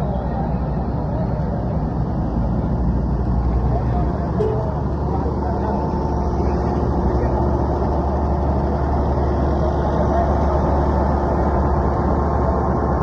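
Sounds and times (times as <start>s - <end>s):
heavy engine droning: 0.0s - 13.0s.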